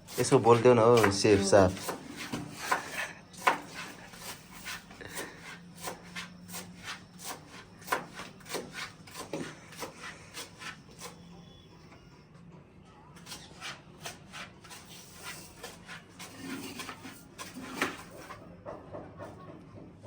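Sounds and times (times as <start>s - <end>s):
knife cutting vegetables on board: 0.0s - 11.2s, 13.2s - 18.4s.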